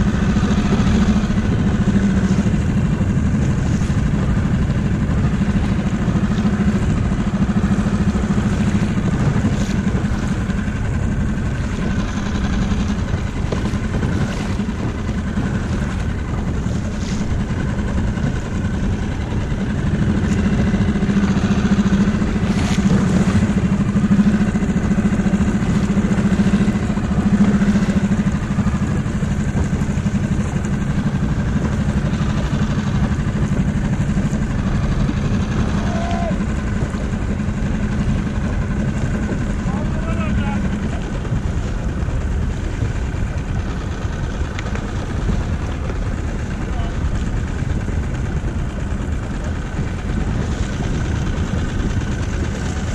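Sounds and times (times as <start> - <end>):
outboard motor running: 0.0 - 52.9.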